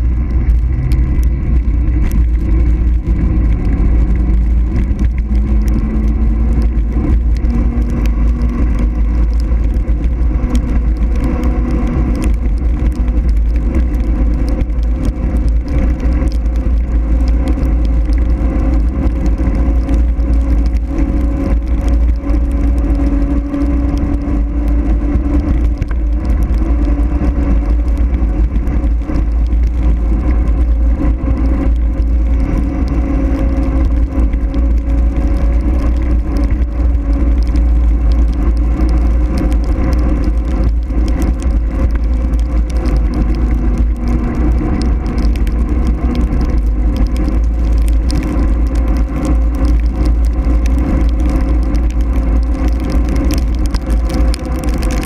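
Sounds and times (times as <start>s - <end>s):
tyres humming on asphalt: 0.0s - 55.0s
wind buffeting microphone: 0.0s - 55.0s.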